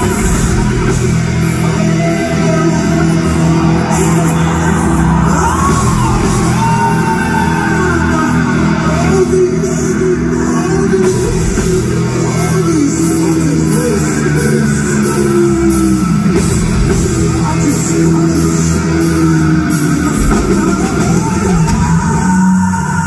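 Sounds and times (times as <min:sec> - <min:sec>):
heavy metal band playing live: 0:00.0 - 0:23.0.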